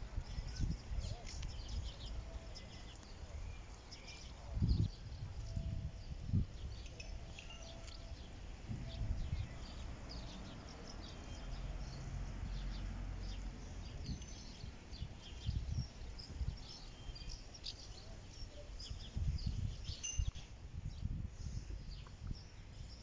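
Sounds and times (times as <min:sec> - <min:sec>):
wind on microphone: 0:00.0 - 0:10.8, 0:13.7 - 0:17.4, 0:18.6 - 0:23.0
small birds chirping: 0:00.0 - 0:23.0.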